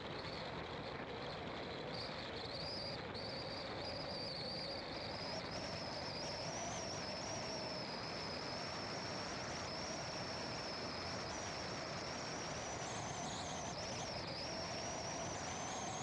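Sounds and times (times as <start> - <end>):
high-pitched insect chorus: 1.9 - 16.0.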